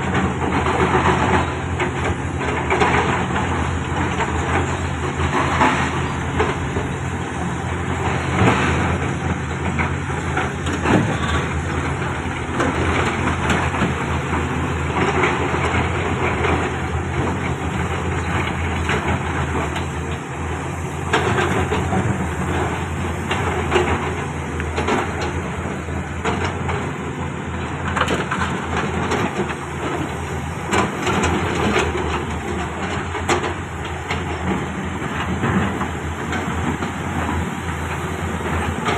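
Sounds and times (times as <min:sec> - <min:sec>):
excavator diesel engine running: 0:00.0 - 0:38.9
knocks and scraping: 0:00.1 - 0:38.9.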